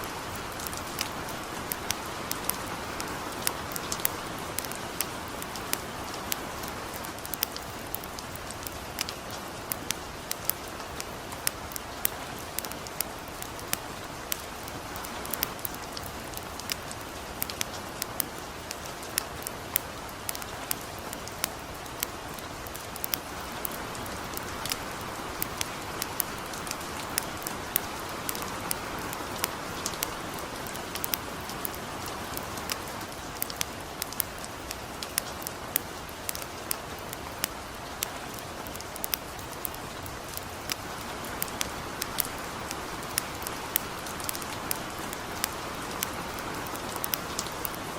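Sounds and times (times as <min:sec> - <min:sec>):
campfire crackling: 0:00.0 - 0:47.9
rain hiss: 0:00.0 - 0:47.9.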